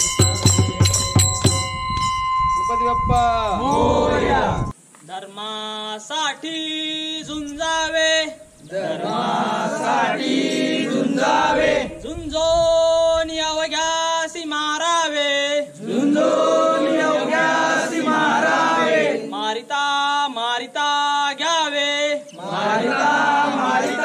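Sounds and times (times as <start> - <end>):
men chanting a prayer: 3.3 - 24.0.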